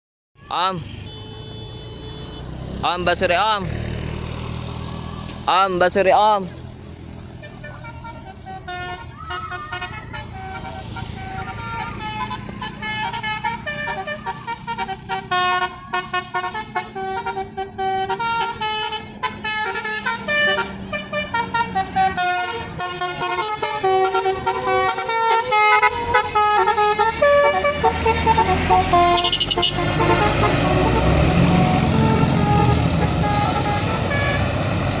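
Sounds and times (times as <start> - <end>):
musical bus horn tune: 0.8 - 3.2, 7.3 - 35.0.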